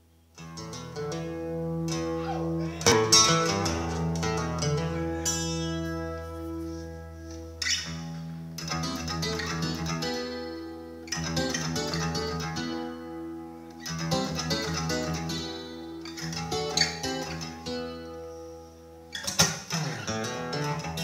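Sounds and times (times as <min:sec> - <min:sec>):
solo acoustic guitar music: 0:00.0 - 0:21.0.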